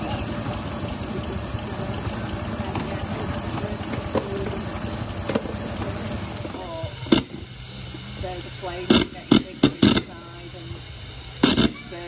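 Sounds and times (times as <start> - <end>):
engine running with flutter: 0.0 - 12.0.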